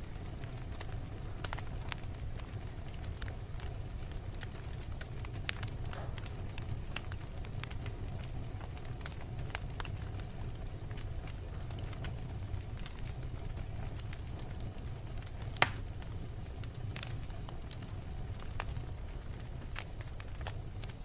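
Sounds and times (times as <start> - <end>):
wood fire burning: 0.0 - 21.0.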